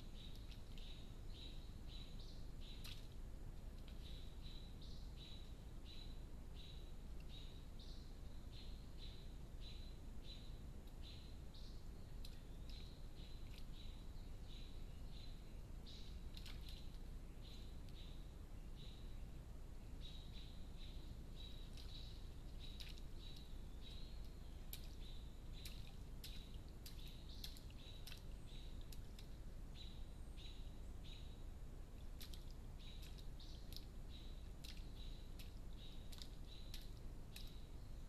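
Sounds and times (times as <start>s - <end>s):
faint steady hiss: 0.0s - 38.0s
small bird chirping: 0.0s - 38.0s.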